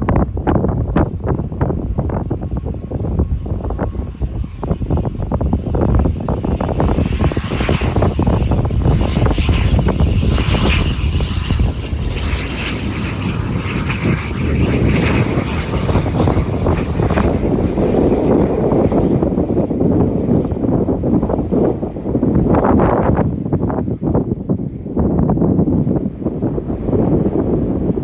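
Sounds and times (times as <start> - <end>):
turboprop engines running: 0.0 - 28.0
wind rumble on microphone: 0.0 - 28.0.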